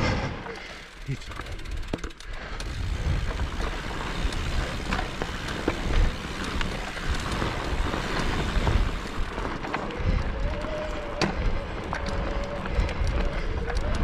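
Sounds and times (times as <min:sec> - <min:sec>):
bike clicks and rattles: 0:00.0 - 0:14.0
tyres rumbling on dirt: 0:00.0 - 0:14.0
wind buffeting microphone: 0:02.6 - 0:14.0.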